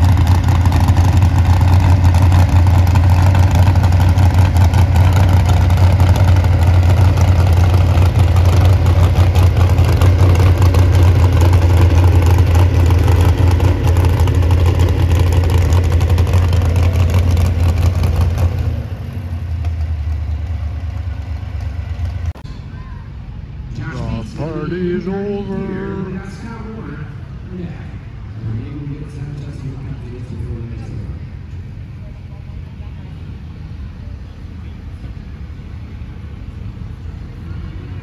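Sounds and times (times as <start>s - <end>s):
truck engine deep rumble: 0.0s - 38.0s.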